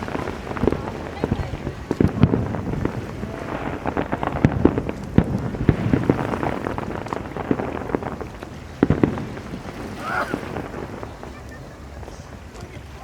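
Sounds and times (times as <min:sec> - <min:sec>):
crackling hiss: 0:00.0 - 0:13.0
fireworks bangs and pops: 0:00.0 - 0:13.0.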